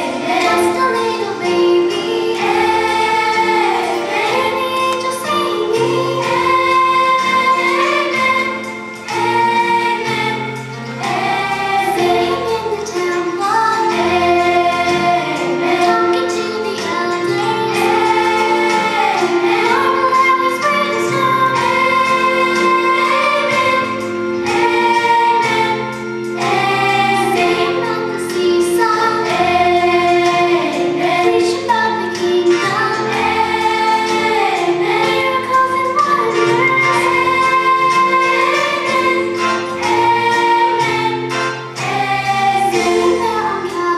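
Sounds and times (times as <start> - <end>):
choir singing a hymn: 0.0 - 43.9
instrumental backing: 0.0 - 43.9.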